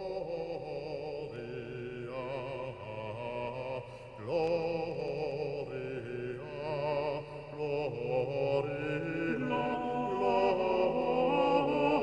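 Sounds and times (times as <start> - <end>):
chanted voices singing: 0.0 - 12.0.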